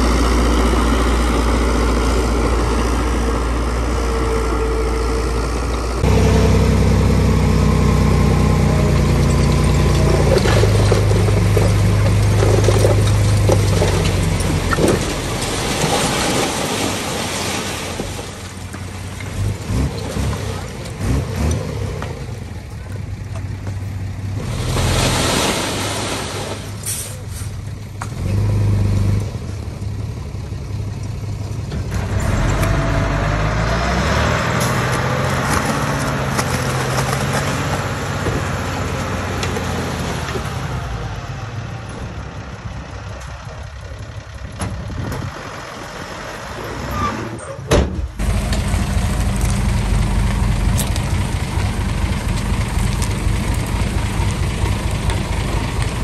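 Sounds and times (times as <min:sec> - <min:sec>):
bulldozer diesel engine running: 0:00.0 - 0:17.3, 0:26.8 - 0:56.0.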